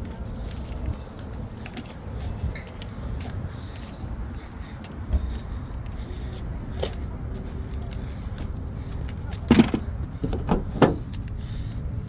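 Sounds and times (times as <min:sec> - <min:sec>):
footsteps on asphalt: 0:00.0 - 0:11.8.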